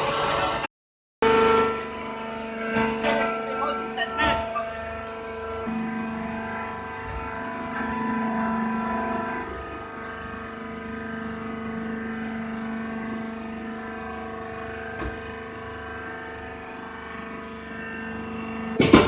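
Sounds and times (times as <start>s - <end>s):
hydraulic pump motor humming: 1.2s - 19.0s.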